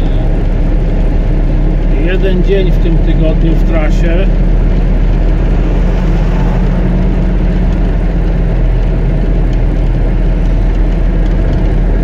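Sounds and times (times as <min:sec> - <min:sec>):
truck engine and tyres droning: 0:00.0 - 0:12.0.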